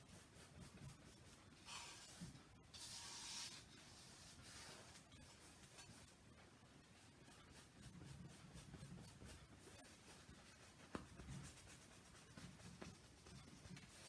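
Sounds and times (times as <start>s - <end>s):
paintbrush brushing on canvas: 0.0s - 14.0s.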